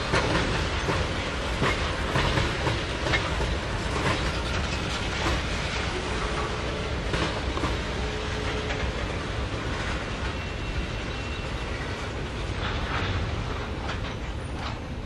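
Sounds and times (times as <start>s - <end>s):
train rumbling past: 0.0s - 15.0s
wheels clacking over rail joints: 0.0s - 15.0s.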